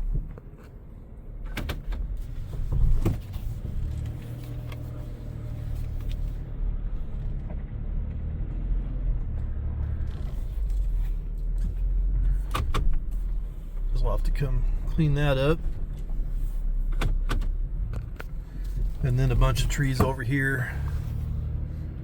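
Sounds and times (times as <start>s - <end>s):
vehicle driving slowly rumble: 0.0s - 22.0s.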